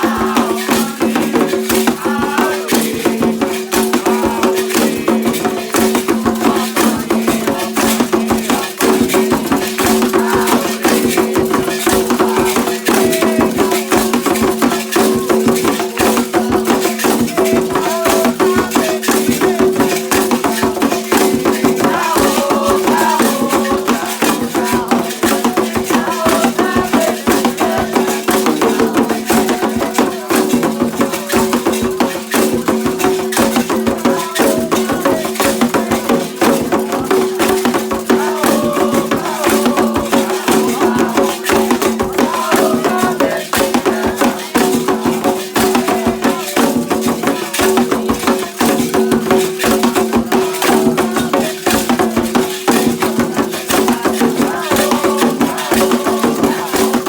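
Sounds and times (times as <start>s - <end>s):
faint voices singing: 0.0s - 57.0s
percussion strokes: 0.0s - 57.0s
shaken rattles: 0.0s - 57.0s.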